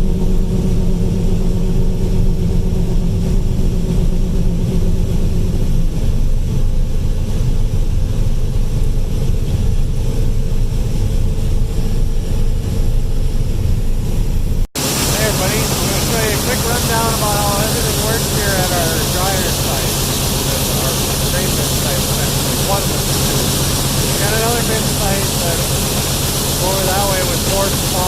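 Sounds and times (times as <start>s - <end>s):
combine harvester machinery drone: 0.0s - 28.0s
steady hum: 0.0s - 28.0s.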